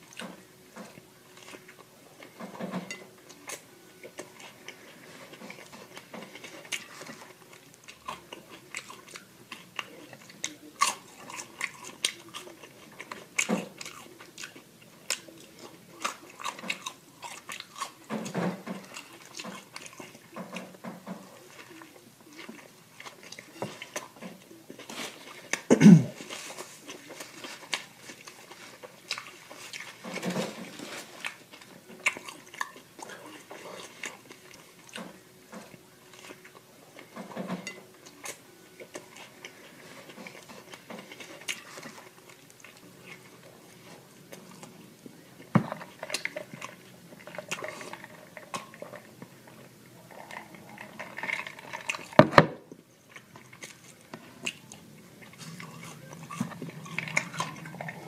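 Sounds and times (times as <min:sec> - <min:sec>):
chewing and biting food: 0:00.0 - 0:58.0.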